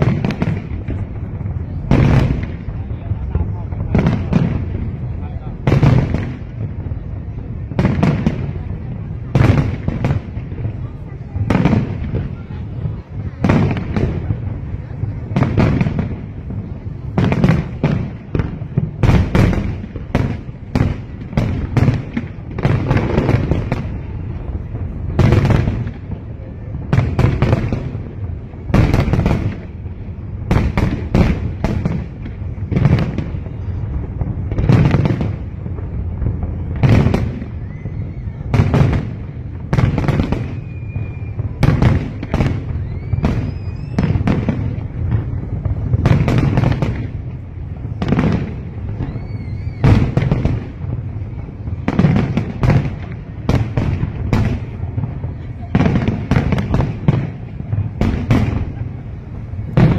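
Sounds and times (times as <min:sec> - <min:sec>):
firework bursts and booms: 0:00.0 - 0:59.9
firework whistling: 0:00.0 - 0:59.9.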